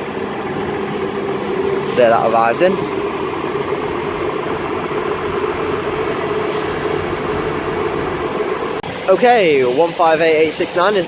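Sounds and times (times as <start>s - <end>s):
diesel train engines droning: 0.0s - 11.0s.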